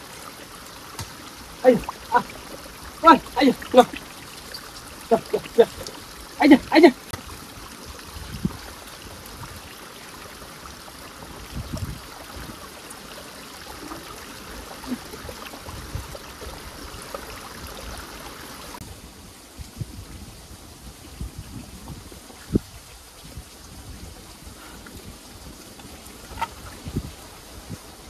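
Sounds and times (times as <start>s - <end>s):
stream running over stones: 0.0s - 28.0s.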